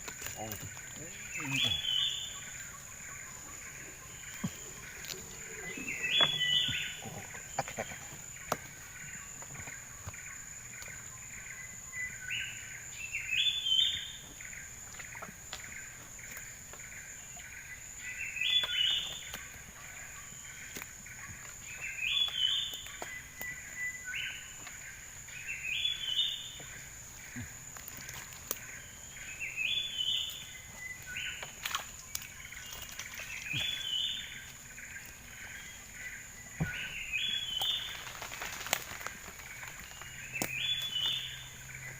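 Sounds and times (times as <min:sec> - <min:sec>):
bird singing: 0:00.0 - 0:41.9.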